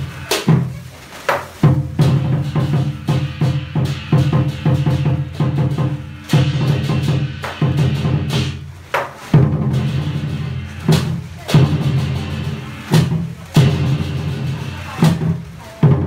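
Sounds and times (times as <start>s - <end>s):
cymbal crashes: 0.0s - 0.8s, 1.6s - 16.0s
big drum beating: 0.0s - 16.0s.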